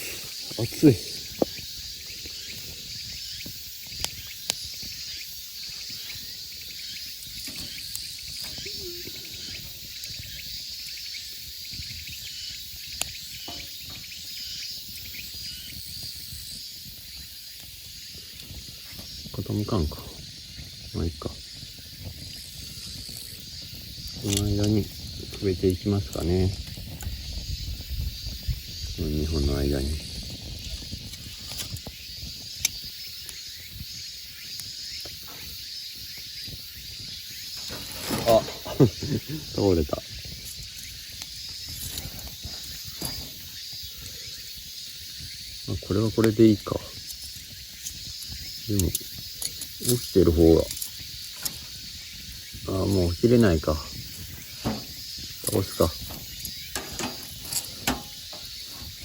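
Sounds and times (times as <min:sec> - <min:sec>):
campfire crackling: 0:00.0 - 0:59.0
insects chirring: 0:00.0 - 0:59.0
steady high-pitched hiss: 0:00.0 - 0:59.0.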